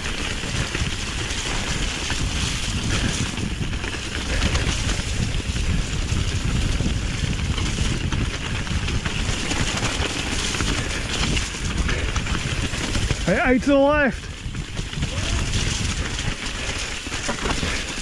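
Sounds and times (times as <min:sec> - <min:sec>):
constant low rumble: 0:00.0 - 0:18.0
wind buffeting microphone: 0:00.0 - 0:18.0.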